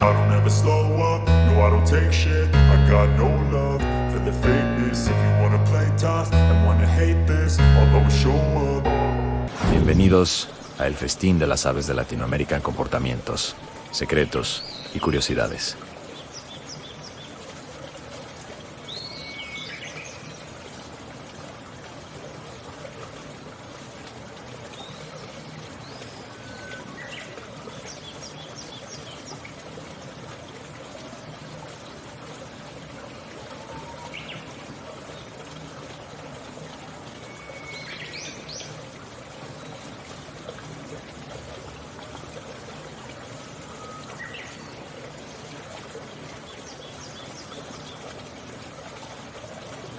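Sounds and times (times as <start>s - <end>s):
trickling water: 0.0s - 49.9s.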